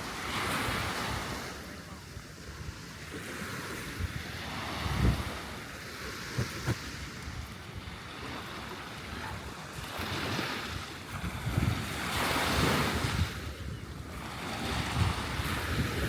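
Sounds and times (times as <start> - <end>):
sea waves washing on shore: 0.0 - 16.0
wind gusting on microphone: 0.0 - 16.0.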